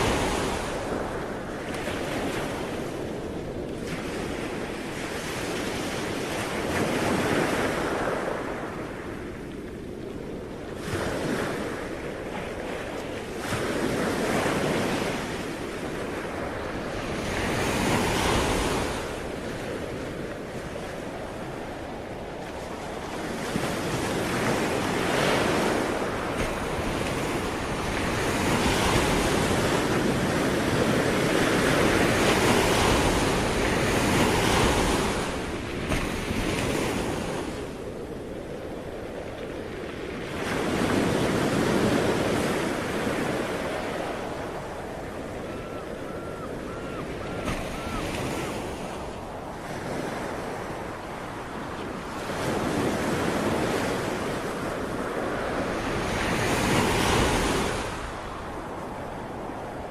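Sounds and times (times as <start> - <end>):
ocean waves breaking on shore: 0.0 - 59.9
wind: 0.0 - 59.9.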